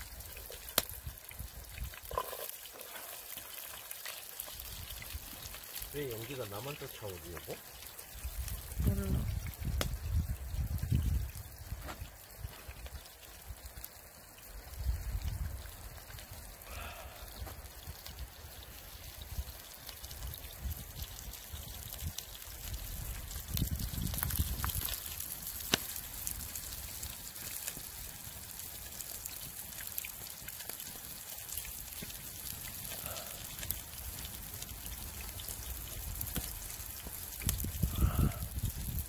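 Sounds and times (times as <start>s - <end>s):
steady watery hiss: 0.0s - 39.0s.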